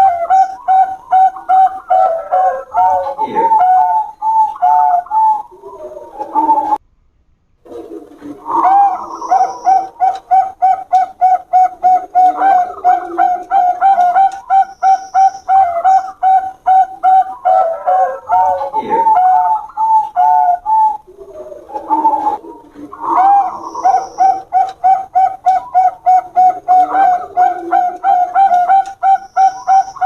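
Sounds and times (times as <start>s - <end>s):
doves cooing: 0.0s - 6.8s, 7.7s - 30.0s.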